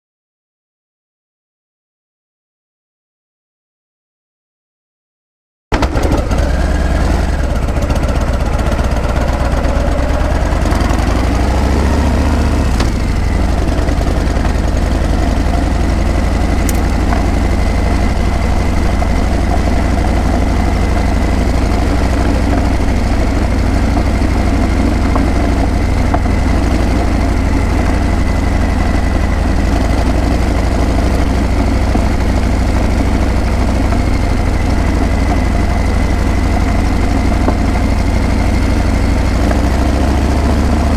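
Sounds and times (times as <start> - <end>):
motorcycle engine running: 5.8 - 40.9.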